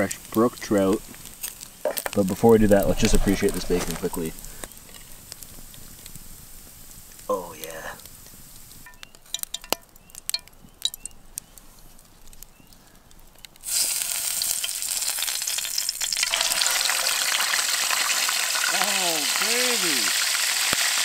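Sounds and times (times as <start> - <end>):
bacon sizzling in a frying pan: 0.0 - 11.2, 13.6 - 21.0.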